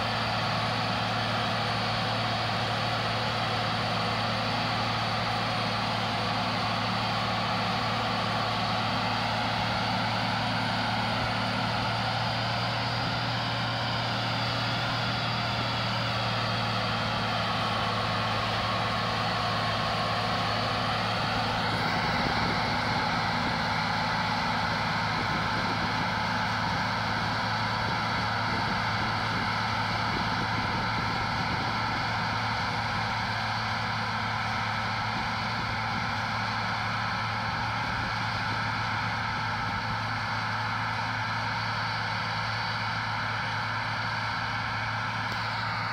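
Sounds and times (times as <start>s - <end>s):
forage harvester engine droning: 0.0s - 45.9s.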